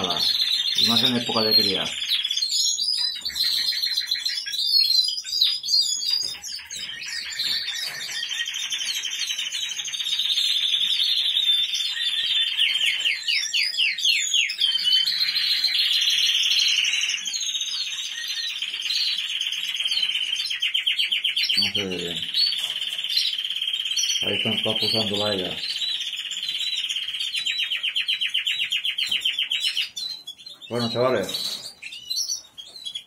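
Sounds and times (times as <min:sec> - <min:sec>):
canaries singing trills: 0:00.0 - 0:33.0.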